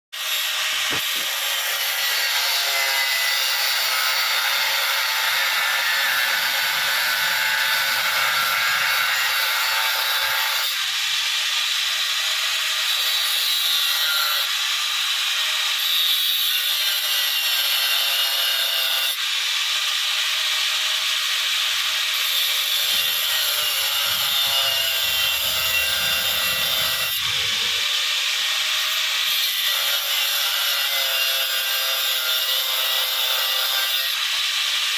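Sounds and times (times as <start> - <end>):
power tool grinding: 0.2 - 34.9.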